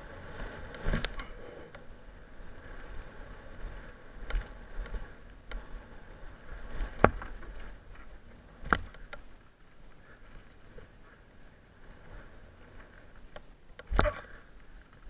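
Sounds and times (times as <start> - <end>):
bike rattling on rocky trail: 0.0 - 15.0.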